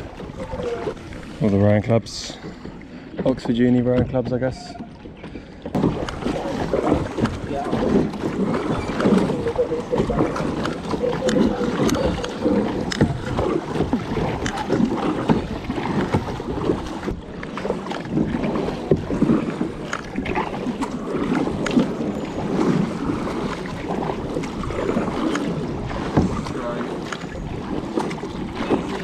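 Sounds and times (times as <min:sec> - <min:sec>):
paddle splashing in river water: 0:00.0 - 0:29.0.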